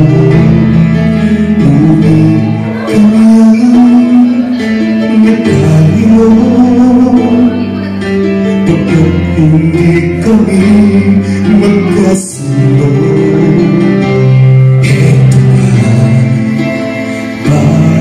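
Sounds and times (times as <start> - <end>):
instrumental accompaniment: 0.0 - 18.0
man singing into microphone: 0.0 - 18.0.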